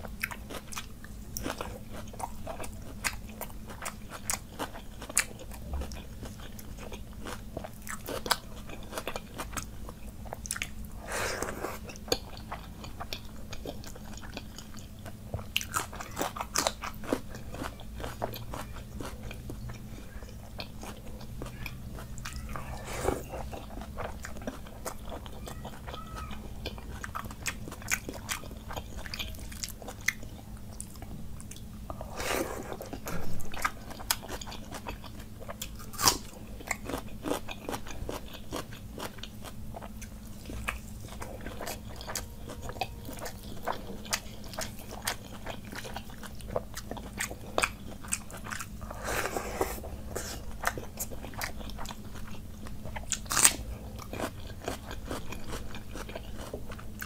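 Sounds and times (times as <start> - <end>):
chewing with wet mouth clicks: 0.0 - 10.9, 11.8 - 22.5, 23.2 - 32.0, 32.8 - 48.8, 50.1 - 57.0.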